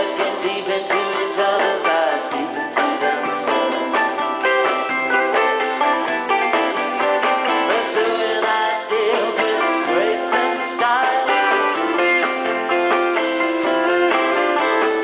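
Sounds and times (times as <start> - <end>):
acoustic guitar plucking: 0.0 - 15.0
banjo: 0.0 - 15.0
bluegrass string band music: 0.0 - 15.0.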